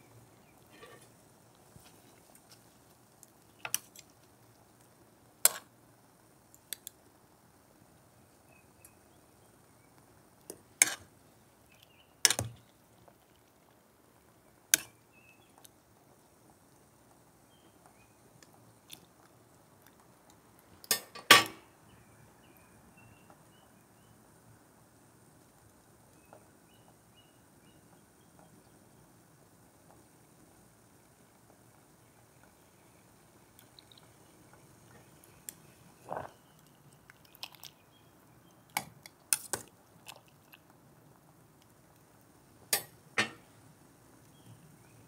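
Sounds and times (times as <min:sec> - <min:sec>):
water boiling: 0:00.0 - 0:21.2, 0:27.9 - 0:45.0.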